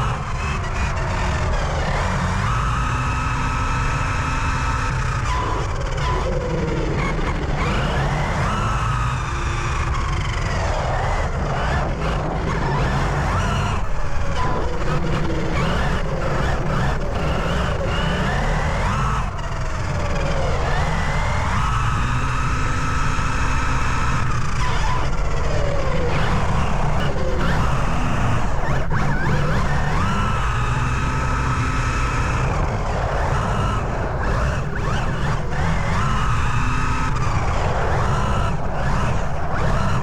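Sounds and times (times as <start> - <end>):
electric motor whine: 0.0 - 40.0.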